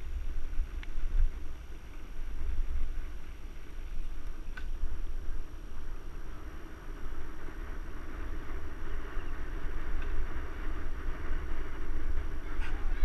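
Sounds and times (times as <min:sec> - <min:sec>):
tyres rolling on a trail: 0:00.0 - 0:13.0
wind rumble on microphone: 0:00.0 - 0:13.0.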